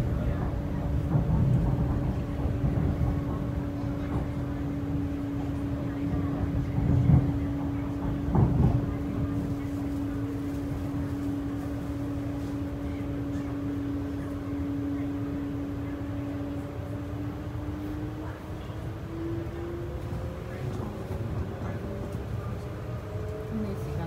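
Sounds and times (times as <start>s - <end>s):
train motor hum: 0.0s - 24.0s
train running rumble: 0.0s - 24.0s.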